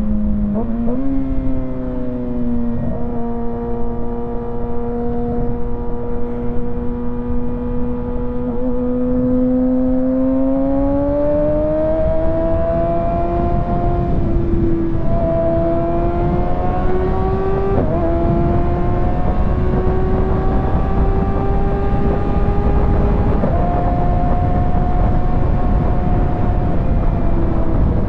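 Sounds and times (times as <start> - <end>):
motorcycle engine at high revs: 0.2 - 28.0
wind rush: 2.5 - 28.0.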